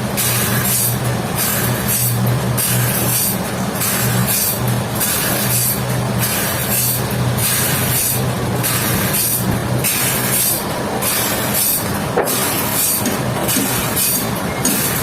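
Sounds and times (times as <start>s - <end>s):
sawmill saw cutting log: 0.2s - 15.0s.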